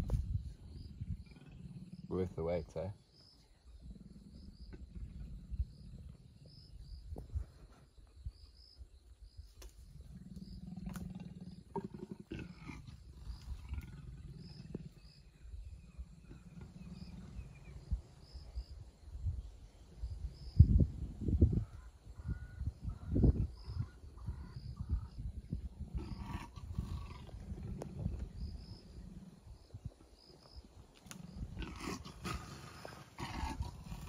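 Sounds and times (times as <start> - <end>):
leopards growling low: 0.0 - 2.8, 3.6 - 7.8, 9.8 - 18.4, 21.2 - 34.0.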